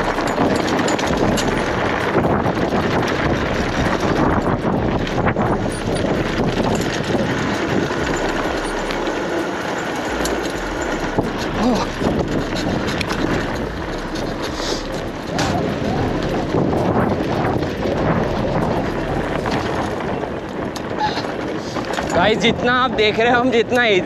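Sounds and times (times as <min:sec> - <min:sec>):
bicycle tyres rumbling on gravel: 0:00.0 - 0:24.0
bike clicking and rattling: 0:00.0 - 0:24.0.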